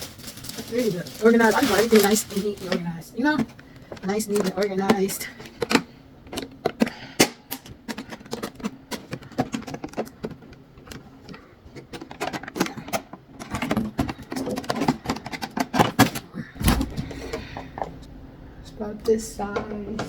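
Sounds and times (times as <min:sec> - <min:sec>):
plastic containers clicking and rustling: 0:00.0 - 0:18.0.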